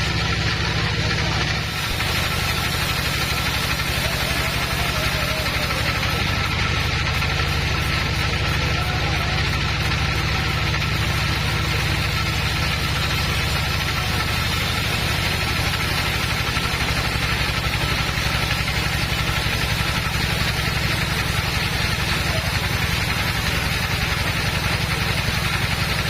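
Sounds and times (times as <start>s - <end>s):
sawmill machinery drone: 0.0s - 26.0s.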